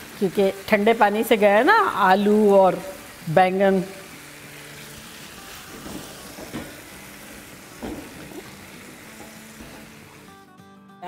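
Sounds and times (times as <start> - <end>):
vegetables sizzling in a wok: 0.0 - 10.5.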